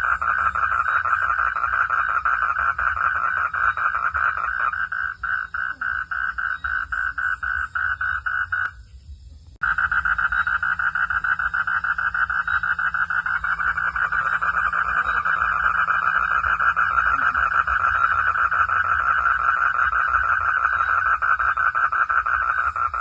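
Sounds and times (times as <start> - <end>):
frogs calling in pulsing chorus: 0.0 - 8.8, 9.6 - 23.0
low steady rumble: 1.6 - 21.9.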